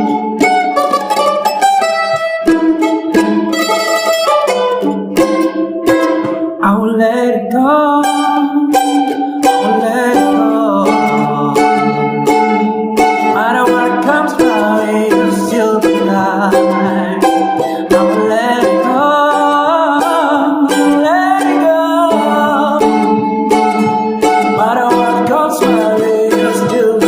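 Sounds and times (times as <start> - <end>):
mandolin strumming: 0.0 - 27.0.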